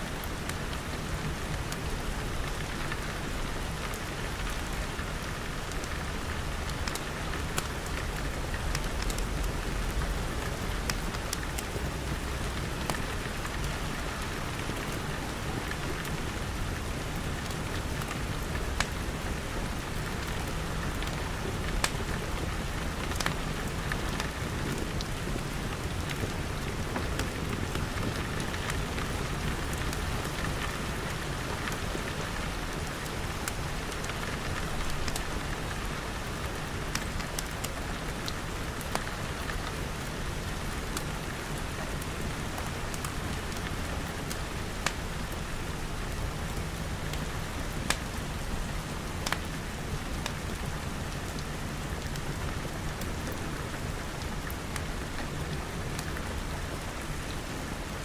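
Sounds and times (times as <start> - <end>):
rain pattering on glass: 0.2 - 57.3
wood fire crackling: 3.9 - 39.8, 40.4 - 57.2.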